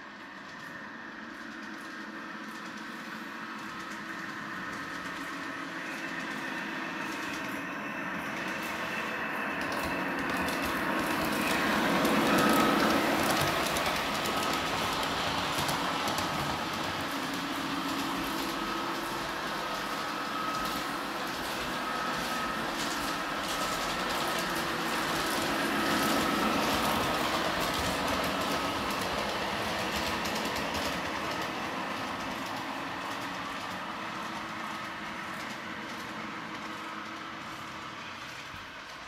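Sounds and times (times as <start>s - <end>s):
model train whirring on rails: 0.0s - 39.0s.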